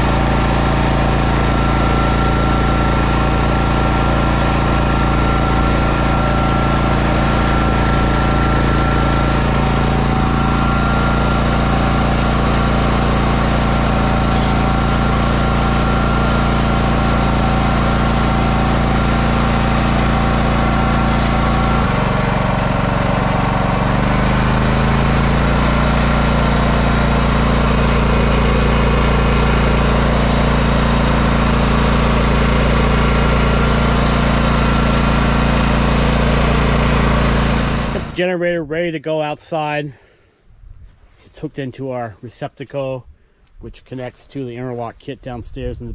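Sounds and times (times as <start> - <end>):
generator engine running: 0.0 - 38.4.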